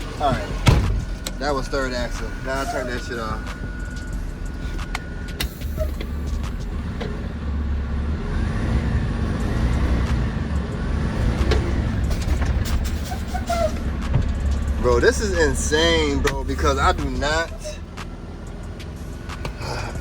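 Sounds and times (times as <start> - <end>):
diesel truck engine rumbling: 0.0 - 20.0.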